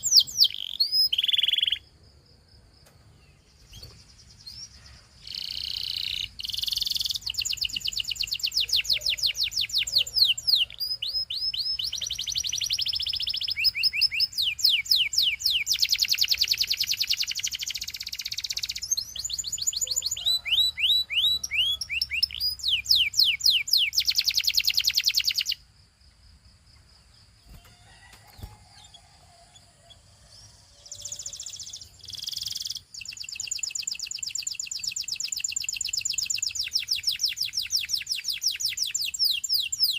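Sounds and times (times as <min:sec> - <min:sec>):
canary singing trills: 0:00.0 - 0:01.9, 0:03.3 - 0:25.6, 0:27.4 - 0:39.9.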